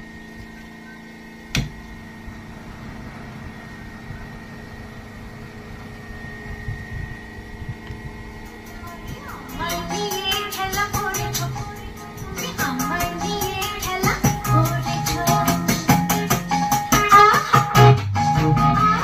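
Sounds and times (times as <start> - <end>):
speaker hum and hiss: 0.0 - 19.0.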